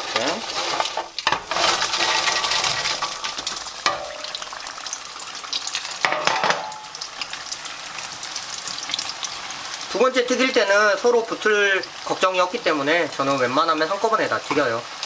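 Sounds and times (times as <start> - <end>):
potato slices sizzling in oil: 0.0 - 15.0.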